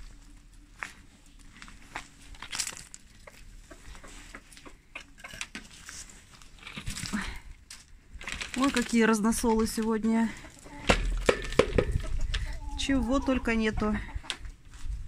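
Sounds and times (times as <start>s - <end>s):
hens pecking on dirt: 0.0s - 13.2s, 14.0s - 15.0s.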